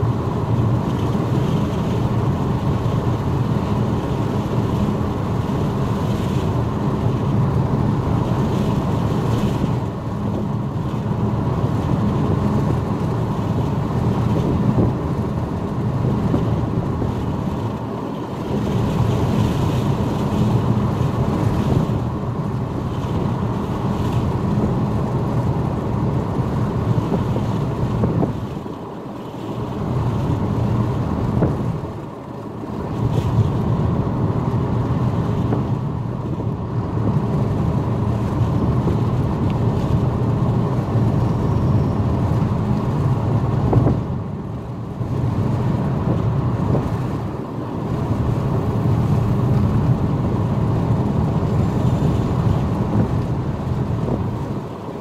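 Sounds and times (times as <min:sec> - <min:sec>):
car interior rumble and wind: 0:00.0 - 0:55.0.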